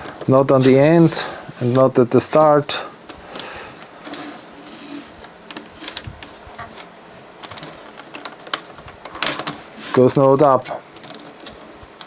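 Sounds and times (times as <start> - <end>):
faint motor hum: 0.0 - 12.0.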